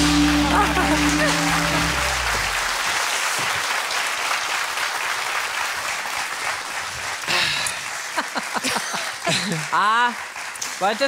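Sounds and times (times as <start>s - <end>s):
studio audience applauding: 0.0s - 11.0s.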